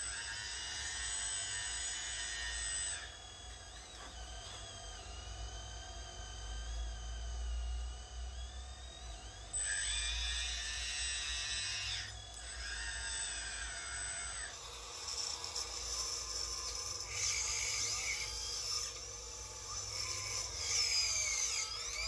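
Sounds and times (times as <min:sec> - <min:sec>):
hydraulic pump whining: 0:00.0 - 0:22.0.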